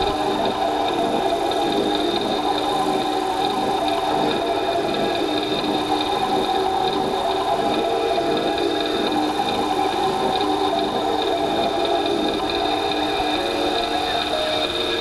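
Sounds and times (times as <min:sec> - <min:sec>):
held droning tones: 0:00.0 - 0:15.0.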